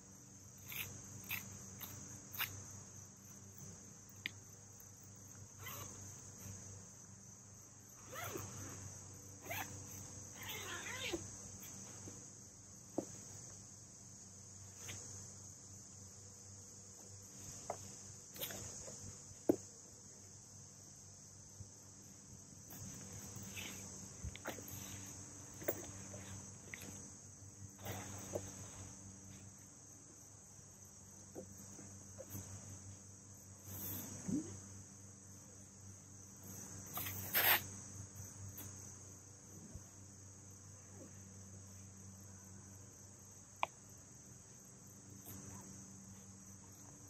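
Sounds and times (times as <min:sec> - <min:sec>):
crickets chirring: 0:00.0 - 0:47.0.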